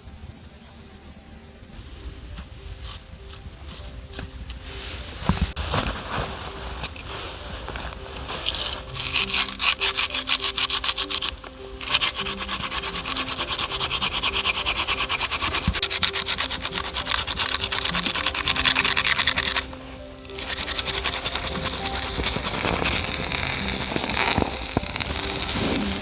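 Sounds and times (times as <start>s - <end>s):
background music: 0.0s - 26.0s
rapid scraping strokes: 1.8s - 26.0s.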